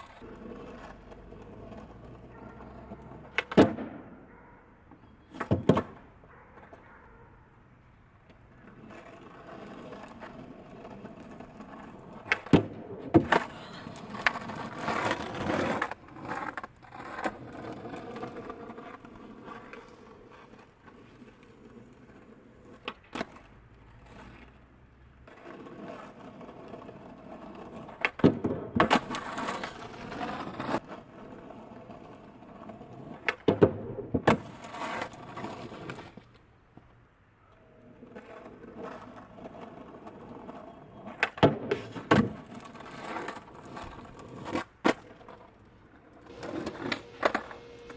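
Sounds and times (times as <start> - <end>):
skateboard popping and landing: 0.0 - 7.0, 8.2 - 24.6, 25.2 - 37.0, 37.8 - 47.9
skateboard wheels rolling: 0.0 - 47.9.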